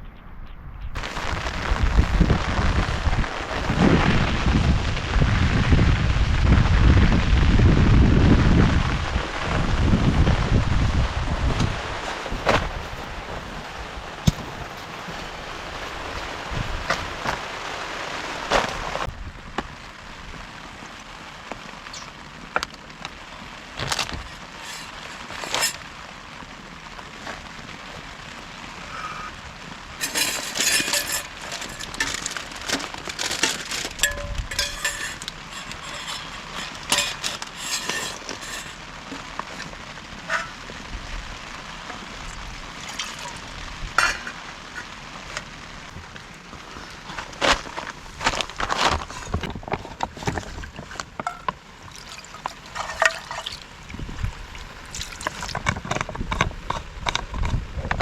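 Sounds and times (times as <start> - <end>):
crackling bursts: 0.9 - 58.0
rain falling: 1.0 - 58.0.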